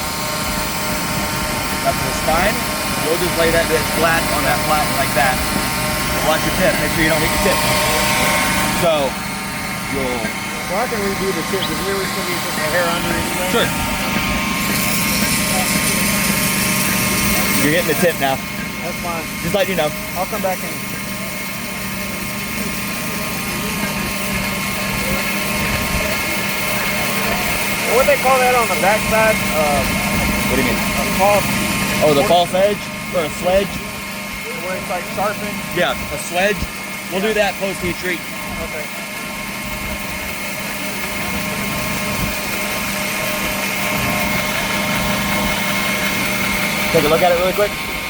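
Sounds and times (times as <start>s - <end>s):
belt grinder grinding knife blade: 0.0s - 48.0s.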